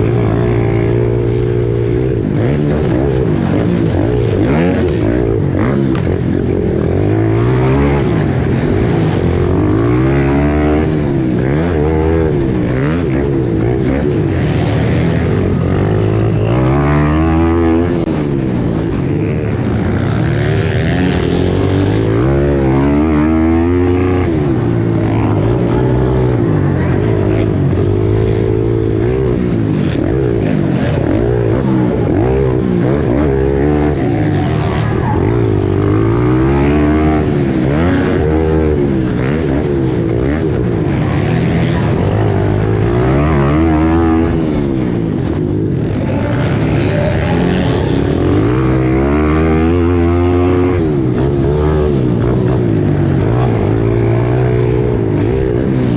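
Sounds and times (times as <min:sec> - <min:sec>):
other bike engines running: 0:00.0 - 0:55.9
pit bike engine revving: 0:00.0 - 0:55.9.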